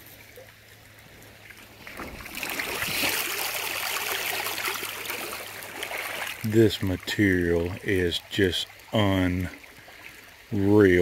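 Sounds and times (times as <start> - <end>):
water splashing and swishing: 0.0 - 11.0.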